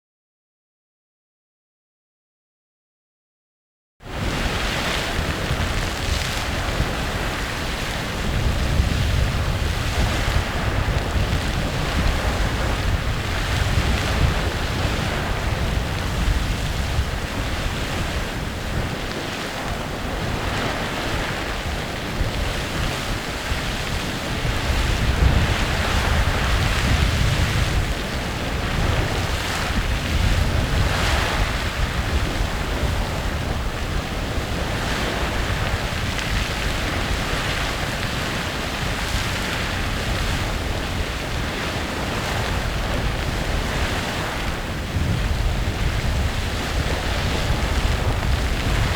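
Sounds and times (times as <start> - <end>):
geyser water and steam rushing: 4.1 - 48.9.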